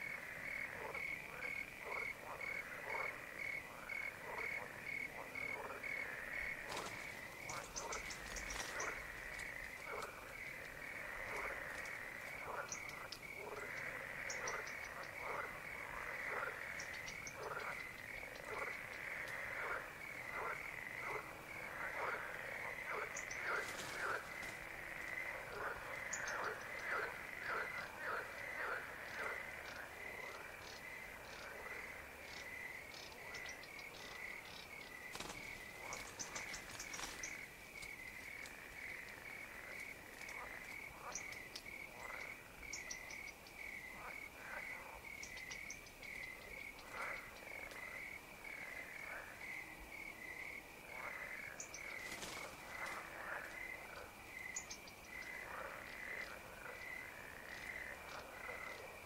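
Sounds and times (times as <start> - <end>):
high insect chirps: 0.0 - 59.0
short frog calls: 0.0 - 59.0
steady pulsing frog call: 0.0 - 59.0.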